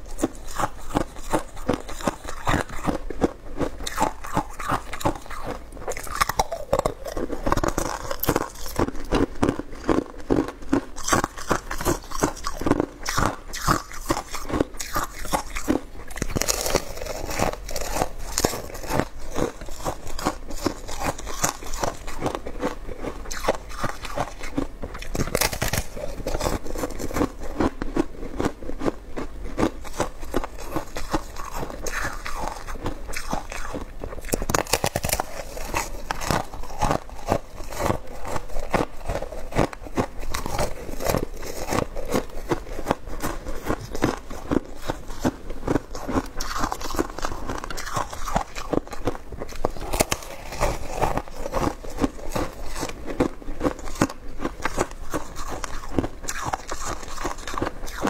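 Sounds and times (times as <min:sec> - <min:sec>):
person crunching frozen ice: 0:00.0 - 0:58.0.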